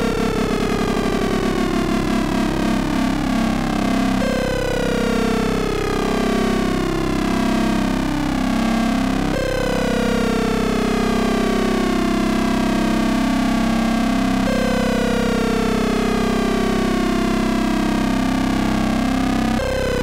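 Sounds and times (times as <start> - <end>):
buzzy synthesizer drone: 0.0 - 20.0.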